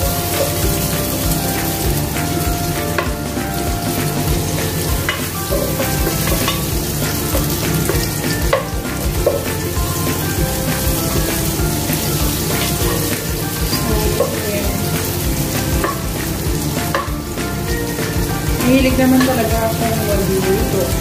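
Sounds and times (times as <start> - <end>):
garlic and onion sizzling: 0.0 - 21.0.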